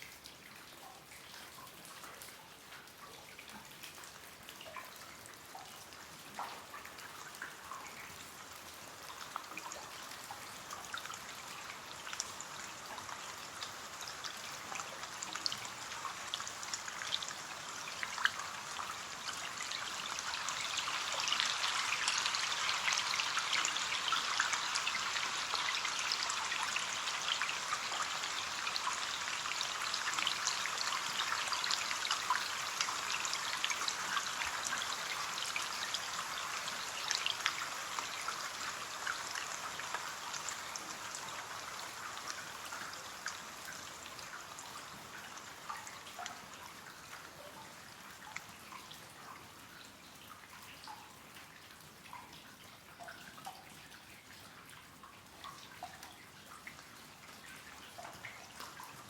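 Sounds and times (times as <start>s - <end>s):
rain on a window pane: 0.0s - 59.0s.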